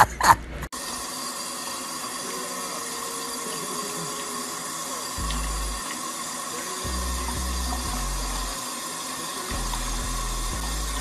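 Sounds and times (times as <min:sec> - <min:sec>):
water running from faucet: 0:00.8 - 0:11.0.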